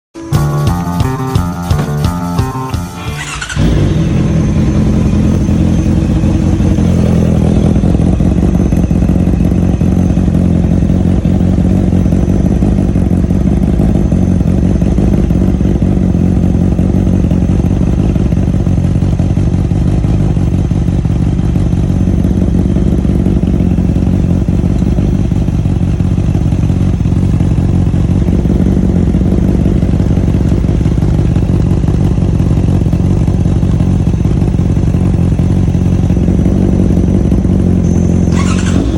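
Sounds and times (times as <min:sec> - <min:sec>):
motorcycle engine idling: 0:00.2 - 0:38.9.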